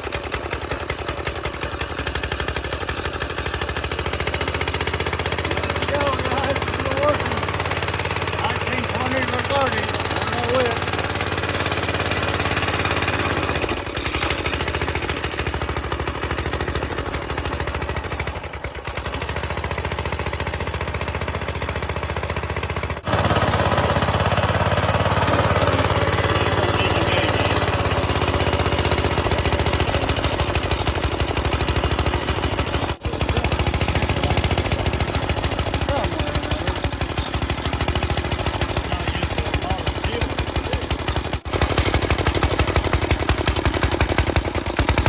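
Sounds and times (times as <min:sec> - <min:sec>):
lawn mower engine popping: 0:00.0 - 0:45.0.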